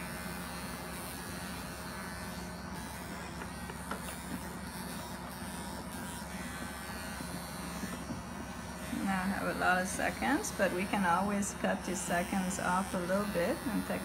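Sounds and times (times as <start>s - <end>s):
electric clipper buzzing: 0.0s - 14.0s.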